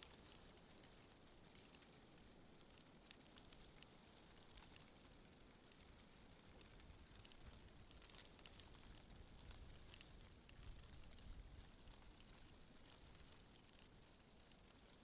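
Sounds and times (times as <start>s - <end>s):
faint high ticks and crackles: 0.0s - 15.0s.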